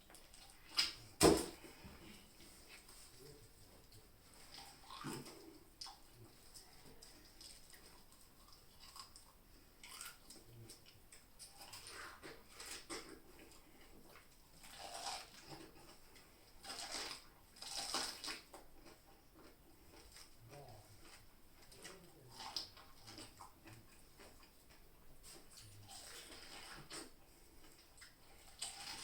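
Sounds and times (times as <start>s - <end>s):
chewing and biting fruit: 4.3s - 29.0s.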